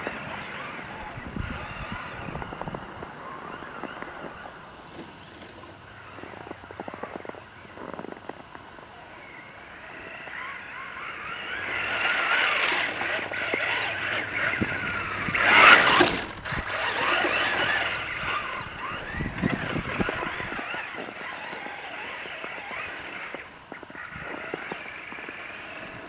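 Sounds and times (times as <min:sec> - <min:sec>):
rc truck electric motor whining: 0:00.0 - 0:06.5, 0:09.6 - 0:26.0.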